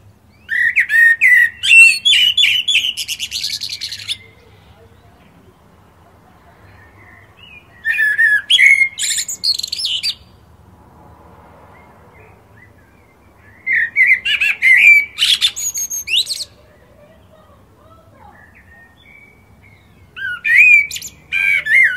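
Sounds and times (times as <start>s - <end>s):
blackbird singing: 0.0s - 10.4s, 11.7s - 21.9s.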